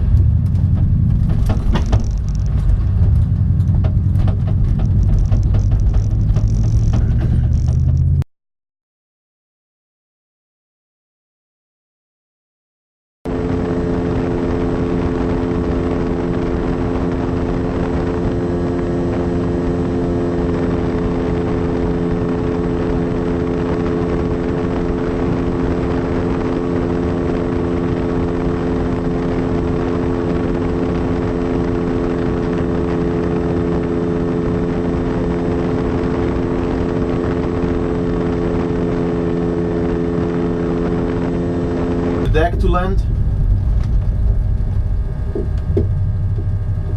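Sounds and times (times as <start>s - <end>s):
propeller aircraft engine: 0.0s - 8.2s, 13.3s - 46.9s
rushing wind noise: 0.0s - 8.2s, 13.3s - 46.9s.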